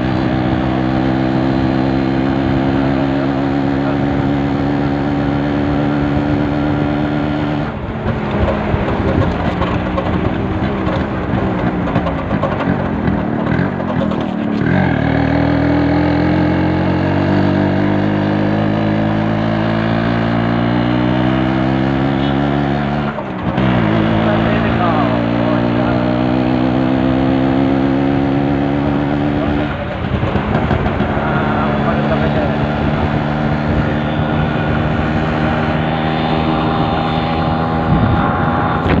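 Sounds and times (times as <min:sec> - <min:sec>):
motorcycle engine droning: 0:00.0 - 0:39.0.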